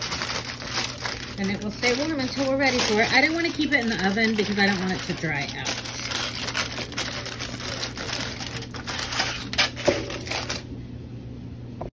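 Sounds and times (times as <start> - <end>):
aluminium foil crinkling: 0.0 - 10.7.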